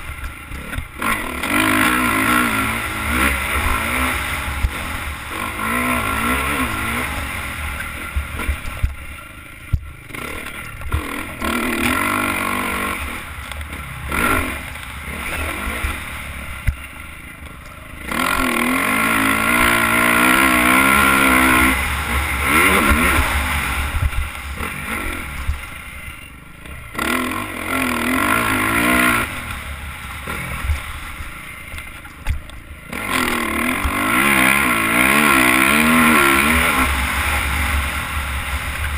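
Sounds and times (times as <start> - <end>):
dirt bike engine revving: 0.0 - 38.9
track rumble: 0.0 - 38.9
wind: 0.0 - 38.9.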